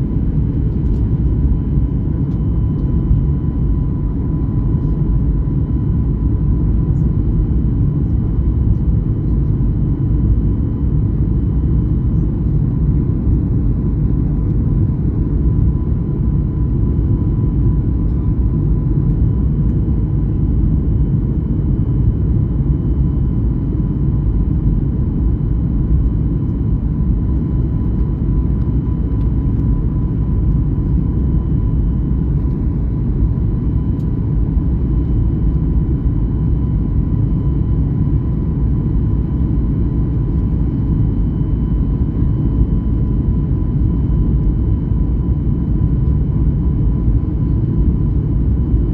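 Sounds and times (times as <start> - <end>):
jet engine rumble: 0.0 - 48.9.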